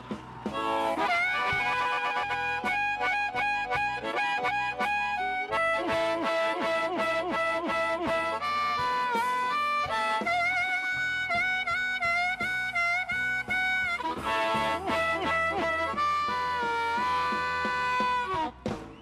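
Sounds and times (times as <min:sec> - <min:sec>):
bass and guitar accompaniment: 0:00.0 - 0:19.0
blues harmonica solo: 0:00.0 - 0:19.0.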